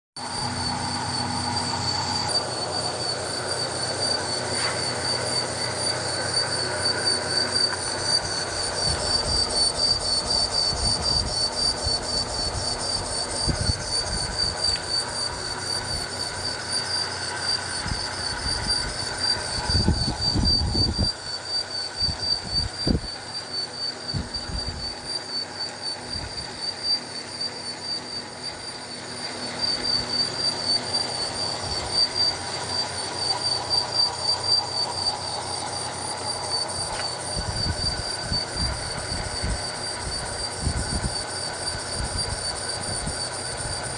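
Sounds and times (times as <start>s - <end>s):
high-pitched squeal: 0.2s - 43.9s
lathe cutting metal: 0.2s - 43.9s.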